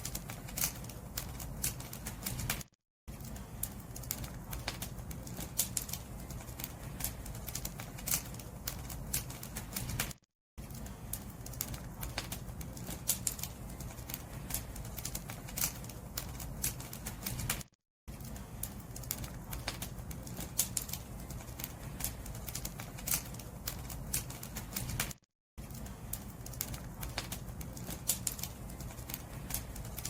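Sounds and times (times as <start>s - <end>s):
firewood popping and snapping: 0.0s - 2.6s, 3.6s - 17.6s, 18.6s - 30.0s
flames rumbling: 0.0s - 30.0s.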